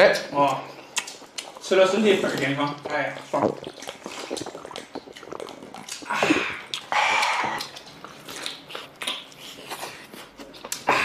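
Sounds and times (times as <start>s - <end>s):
chewing with wet mouth clicks: 0.0s - 10.9s
slurping soup: 0.7s - 10.4s.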